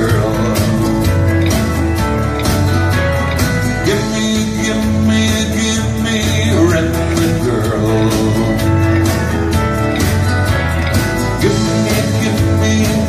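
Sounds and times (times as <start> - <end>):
acoustic guitar strumming: 0.0 - 13.0
low bass line: 0.0 - 13.0.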